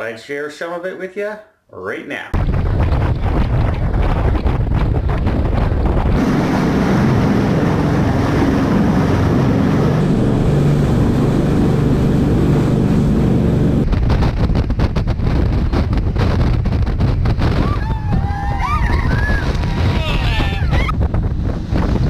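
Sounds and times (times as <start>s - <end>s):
jet boat engine rumble: 2.4s - 22.0s
wind buffeting microphone: 2.4s - 22.0s.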